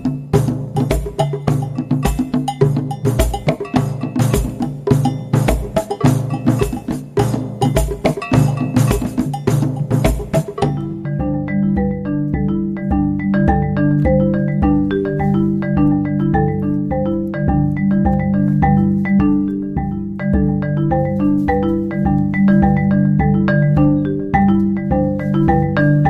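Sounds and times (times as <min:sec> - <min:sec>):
light bouncy background music: 0:00.0 - 0:26.0.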